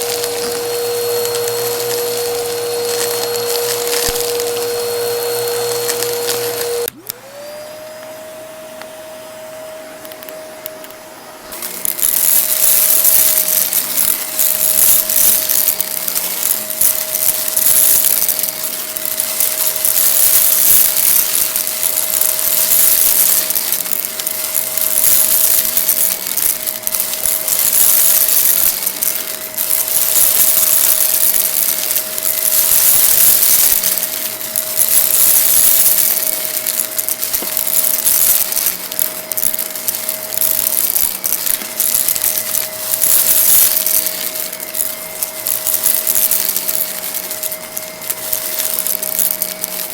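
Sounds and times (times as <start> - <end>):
grit crackling and rattling: 0.0 - 7.0, 11.5 - 49.9
vacuum cleaner motor whining: 0.0 - 49.9.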